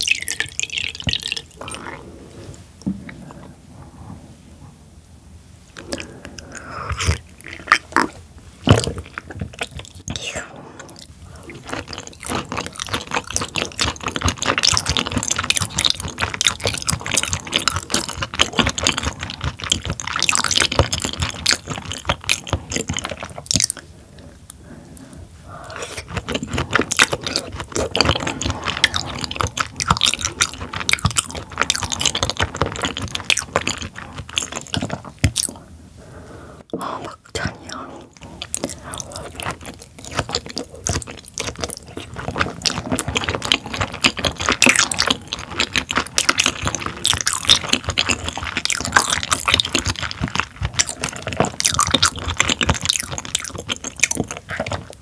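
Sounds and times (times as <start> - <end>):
wet chewing: 0.0 - 2.2, 5.8 - 55.0.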